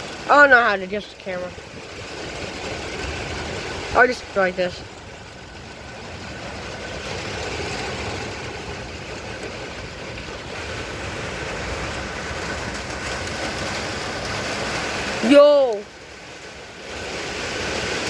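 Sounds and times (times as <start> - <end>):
wind and rain rushing: 0.0 - 18.0.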